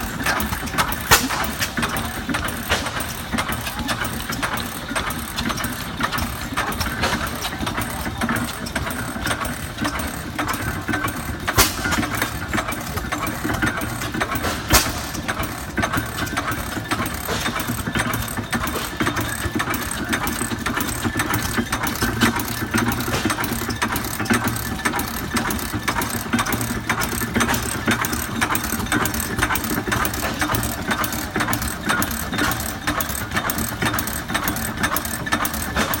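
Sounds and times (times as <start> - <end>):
sharp engine knocks: 0.0 - 36.0
stationary engine clattering: 0.0 - 36.0.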